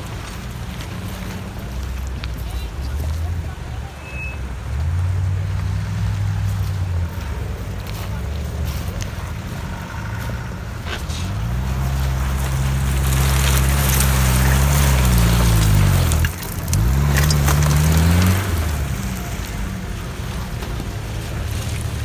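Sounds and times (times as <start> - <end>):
car engine revving under load: 0.0 - 22.0.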